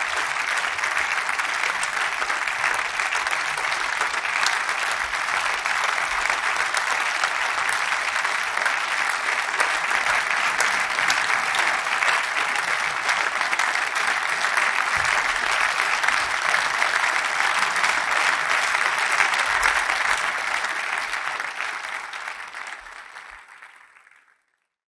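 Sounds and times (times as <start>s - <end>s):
audience applauding: 0.0s - 24.8s.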